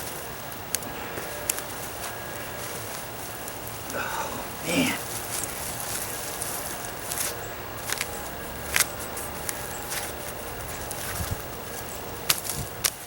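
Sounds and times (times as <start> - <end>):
sharp cracks and snaps: 0.0 - 3.0, 5.2 - 13.0
rustle of soil and vines: 0.0 - 13.0.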